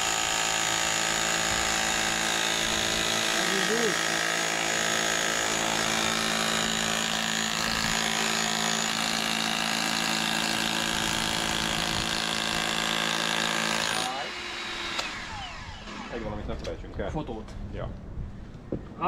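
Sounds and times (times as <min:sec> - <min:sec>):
electric rotary hammer running: 0:00.0 - 0:16.3.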